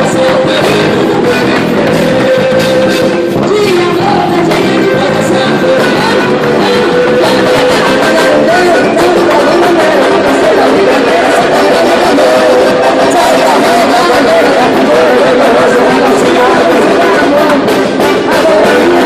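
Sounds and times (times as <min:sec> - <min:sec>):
band music: 0:00.0 - 0:19.0
person singing: 0:00.0 - 0:19.0.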